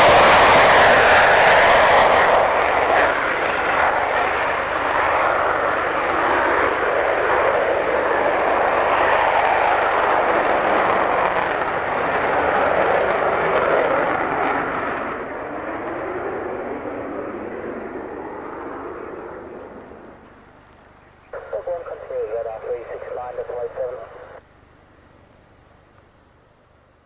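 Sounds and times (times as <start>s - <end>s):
jet engines roaring: 0.0s - 24.4s.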